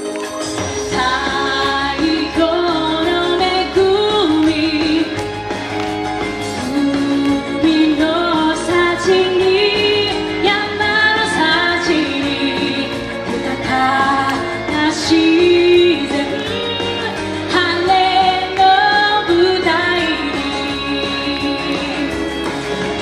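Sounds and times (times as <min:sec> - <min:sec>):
keyboard: 0:00.0 - 0:23.0
woman singing into microphone: 0:00.5 - 0:05.5, 0:06.2 - 0:23.0.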